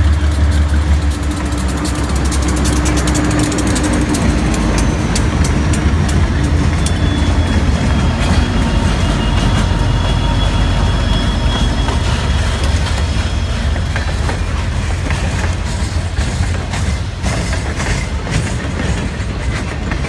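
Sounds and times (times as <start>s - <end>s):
diesel locomotive engine rumble: 0.0s - 20.0s
wheels clicking over rail joints: 0.0s - 20.0s.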